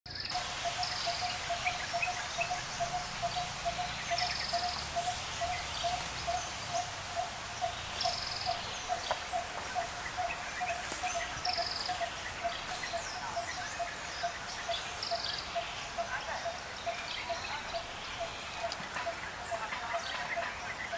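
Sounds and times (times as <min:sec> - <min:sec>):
background hiss: 0:00.1 - 0:20.9.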